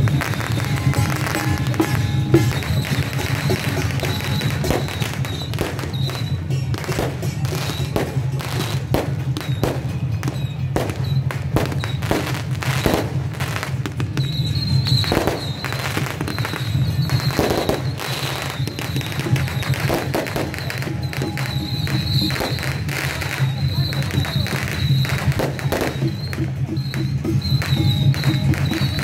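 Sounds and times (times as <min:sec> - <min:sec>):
firecrackers cracking: 0:00.0 - 0:29.0
music: 0:00.0 - 0:29.0.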